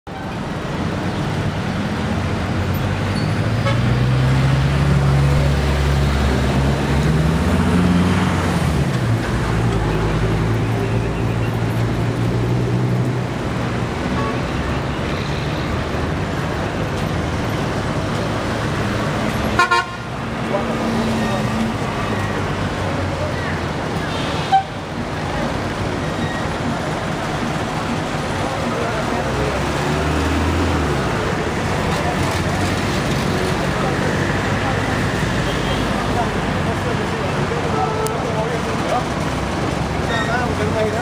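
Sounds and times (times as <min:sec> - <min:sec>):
traffic hum: 0:00.1 - 0:41.0.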